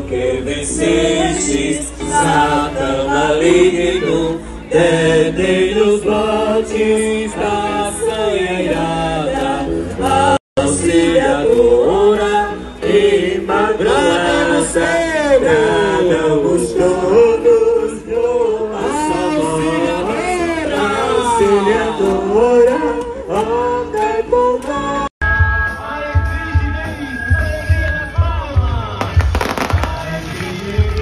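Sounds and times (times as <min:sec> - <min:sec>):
group singing a hymn: 0:00.0 - 0:25.1, 0:28.7 - 0:31.0.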